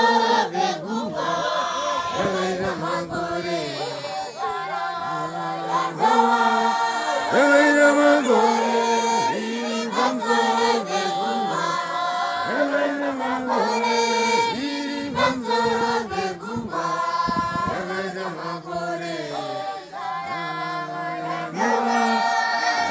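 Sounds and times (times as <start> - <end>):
congregation singing in chorus: 0.0 - 22.9.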